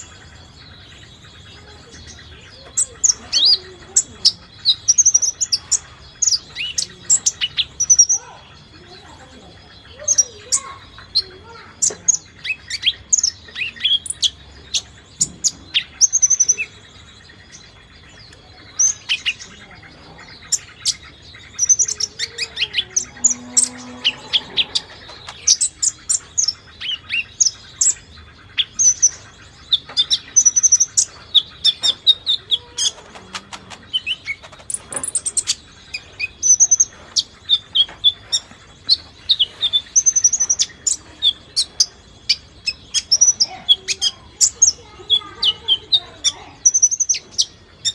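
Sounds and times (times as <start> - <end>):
songbird chirping and whistling: 0.0 - 47.9.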